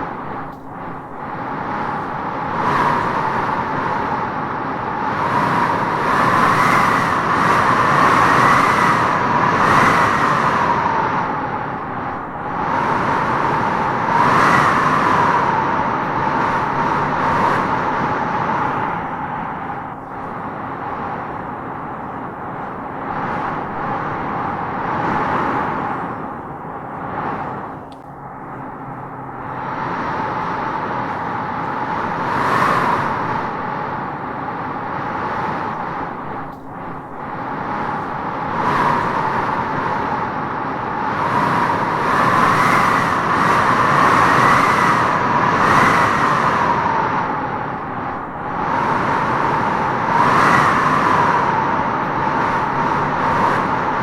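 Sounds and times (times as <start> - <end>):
strong wind howling through trees: 0.0 - 54.0.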